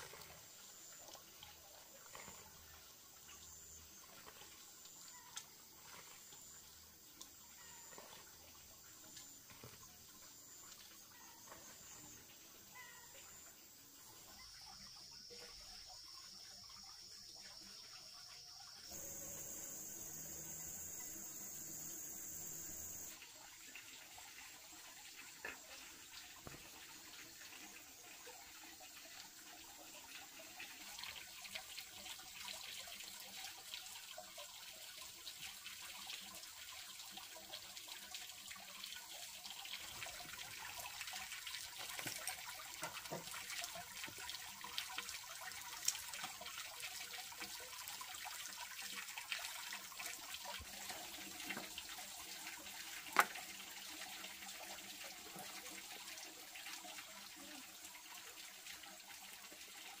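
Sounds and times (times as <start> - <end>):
water trickling and splashing: 0.0 - 60.0.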